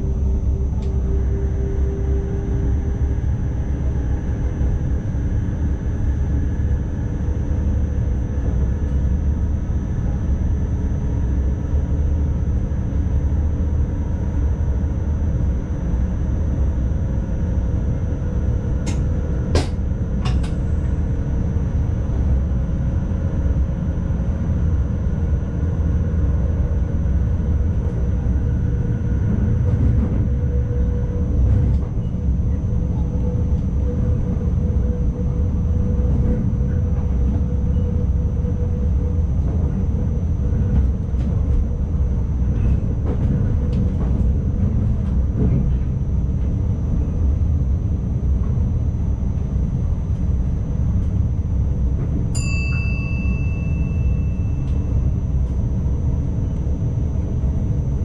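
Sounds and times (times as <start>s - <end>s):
train rumbling on track: 0.0s - 58.0s.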